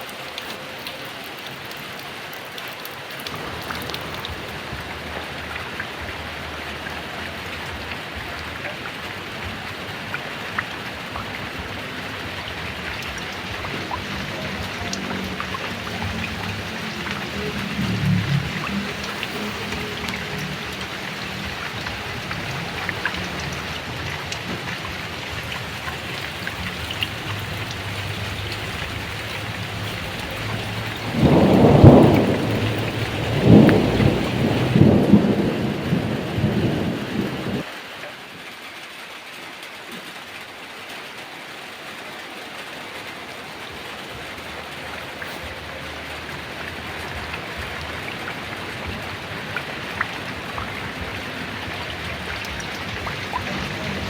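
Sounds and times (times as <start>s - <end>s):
heavy rain falling: 0.0s - 54.0s
thunder rumbling: 3.2s - 37.7s, 43.5s - 54.0s.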